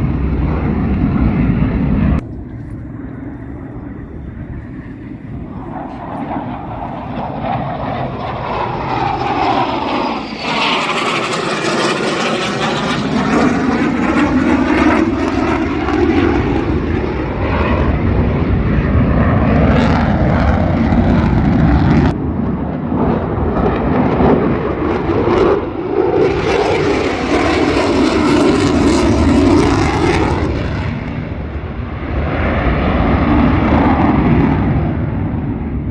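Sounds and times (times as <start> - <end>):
airplane engine passing overhead: 0.0 - 35.9.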